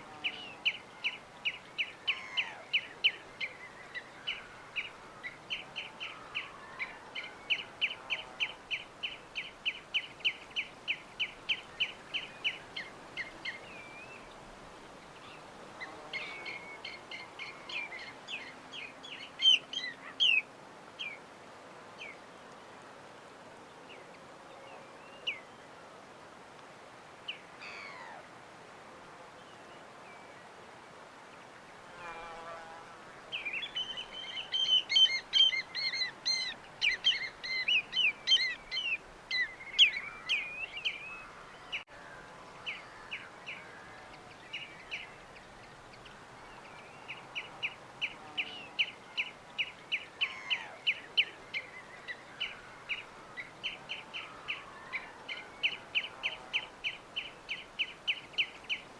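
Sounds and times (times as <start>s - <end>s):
small birds singing: 0.0s - 22.3s, 33.1s - 58.9s
faint hiss: 0.0s - 58.9s.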